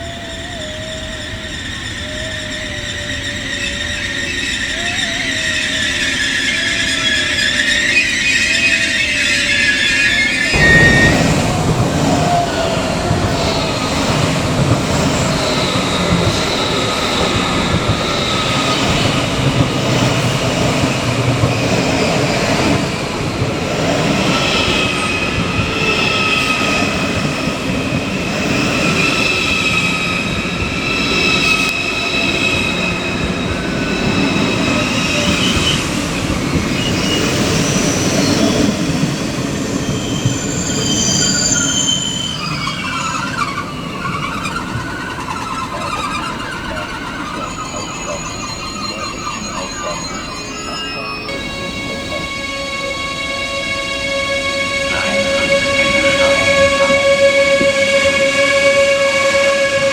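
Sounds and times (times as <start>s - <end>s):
train rumbling and rattling: 0.0s - 59.9s
train wheels squealing: 0.0s - 59.9s.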